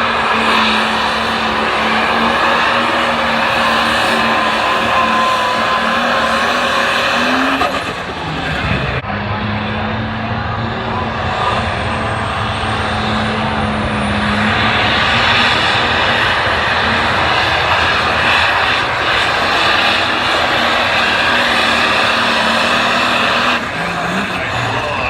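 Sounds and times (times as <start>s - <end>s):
diesel tractor engine running flat out: 0.0s - 25.0s.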